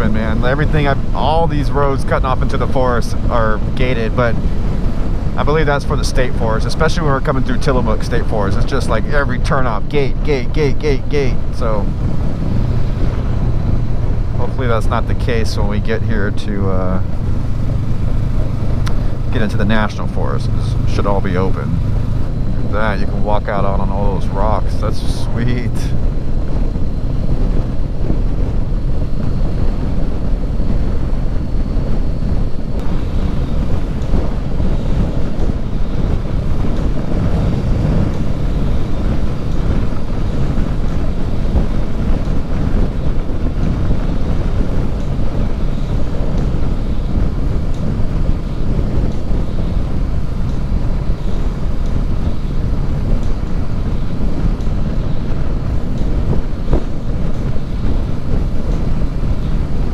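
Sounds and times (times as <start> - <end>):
motorcycle engine cruising: 0.0 - 59.9
wind rush on microphone: 0.0 - 59.9.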